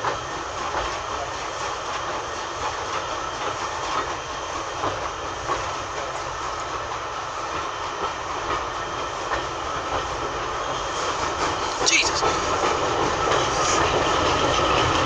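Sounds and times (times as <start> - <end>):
train coach rumbling on track: 0.0 - 15.0.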